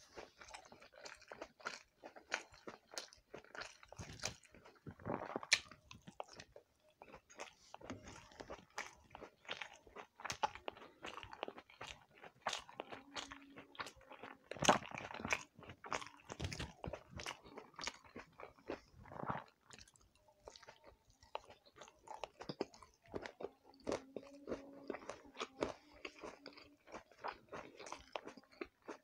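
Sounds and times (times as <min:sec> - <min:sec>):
close-up chewing with mouth clicks: 0:00.0 - 0:29.0.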